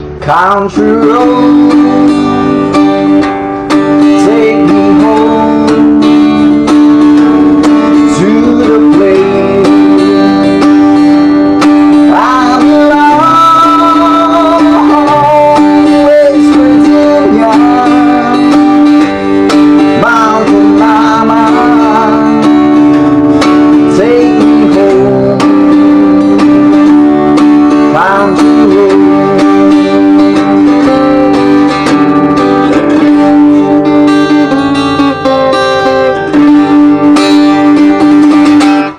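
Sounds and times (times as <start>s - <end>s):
acoustic guitar tune: 0.0s - 38.9s.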